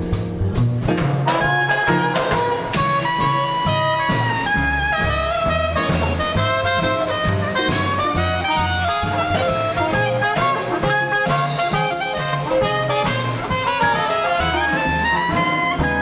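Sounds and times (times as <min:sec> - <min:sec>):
drums: 0:00.0 - 0:16.0
walking bass: 0:00.0 - 0:16.0
saxophone: 0:01.2 - 0:16.0
trumpet: 0:01.2 - 0:16.0.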